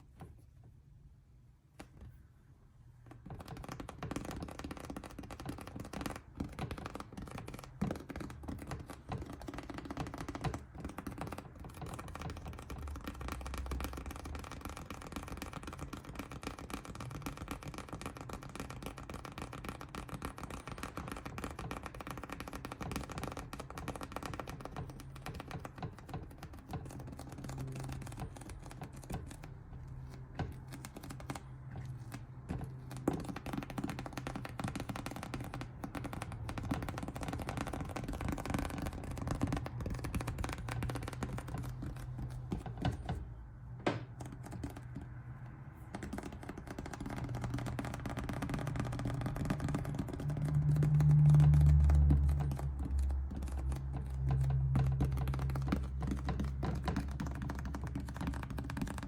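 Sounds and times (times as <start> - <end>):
rapid scratching and tapping: 3.0 - 59.0.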